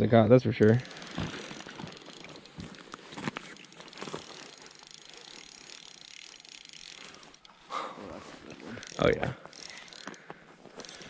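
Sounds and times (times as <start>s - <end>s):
fishing reel drag ticking: 0.4s - 7.7s, 8.5s - 11.0s.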